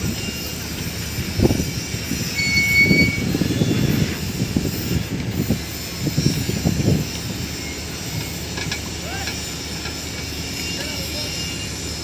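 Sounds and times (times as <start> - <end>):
crawler tracks clanking and creaking: 0.0 - 12.0
high squeal: 1.5 - 5.1, 5.8 - 12.0.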